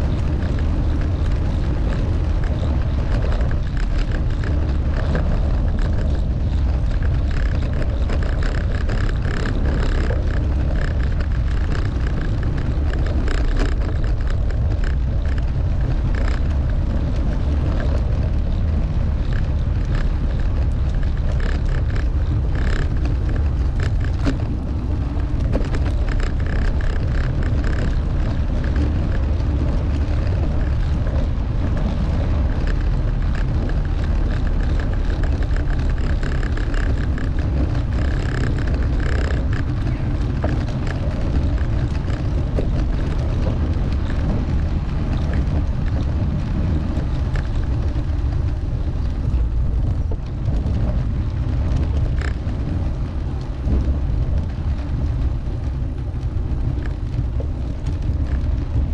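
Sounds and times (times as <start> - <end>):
bicycle tyre and road noise: 0.0 - 58.9
wind rumble on microphone: 0.0 - 58.9.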